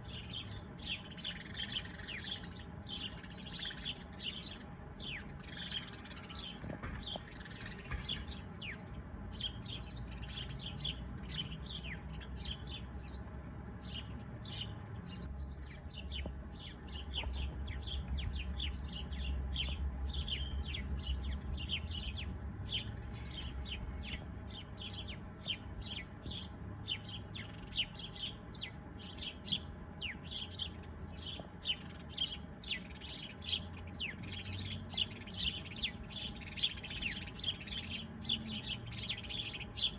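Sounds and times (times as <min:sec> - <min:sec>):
low background rumble: 0:00.0 - 0:39.9
songbirds chirping: 0:00.0 - 0:39.9.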